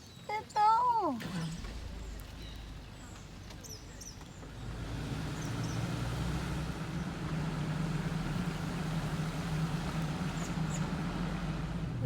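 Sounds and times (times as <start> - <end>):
car engine and road noise: 0.9 - 12.0.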